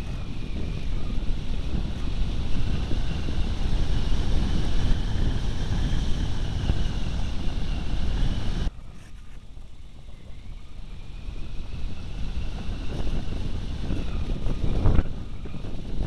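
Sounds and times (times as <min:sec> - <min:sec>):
faint high whine: 0:00.0 - 0:16.0
rushing airflow: 0:00.0 - 0:16.0.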